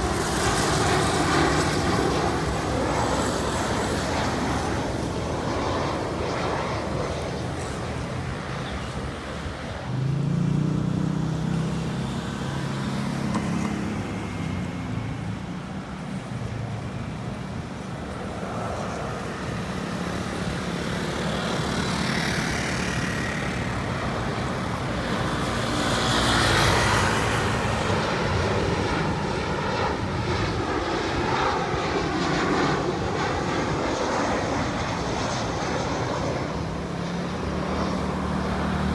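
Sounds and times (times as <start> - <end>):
jet engines roaring overhead: 0.0 - 38.9.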